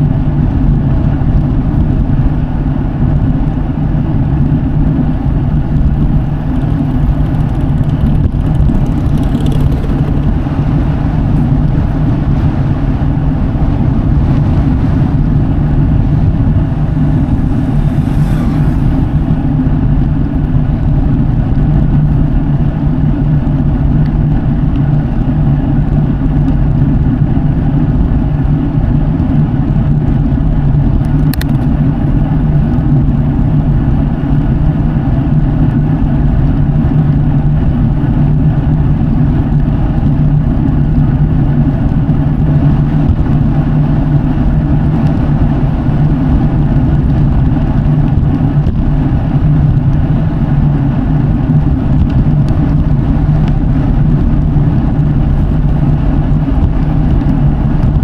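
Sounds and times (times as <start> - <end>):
bike tyres rolling on road: 0.0 - 58.0.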